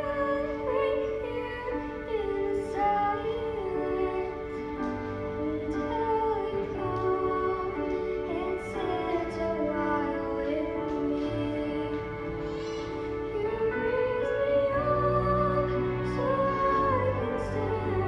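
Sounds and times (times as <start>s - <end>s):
girl singing into a microphone: 0.0s - 4.7s, 5.4s - 12.1s, 13.4s - 18.0s
sustained instrumental accompaniment: 0.0s - 18.0s.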